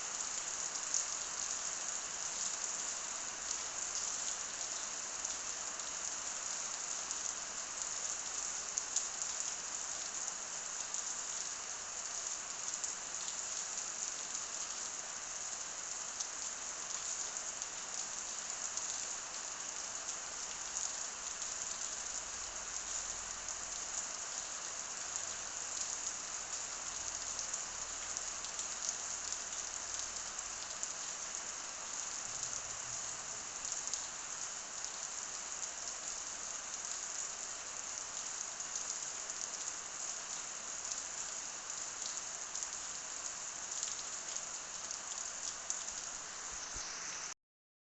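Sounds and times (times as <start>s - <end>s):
steady rain patter: 0.0s - 47.4s.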